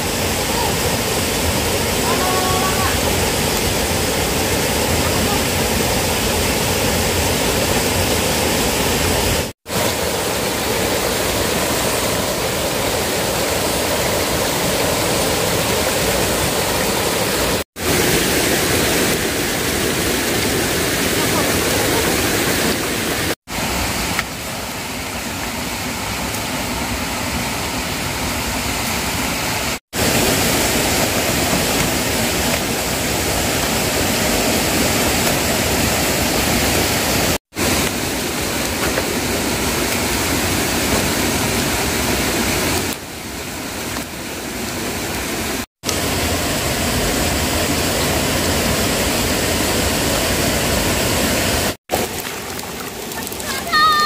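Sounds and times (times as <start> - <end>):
rushing stream water: 0.0 - 54.0.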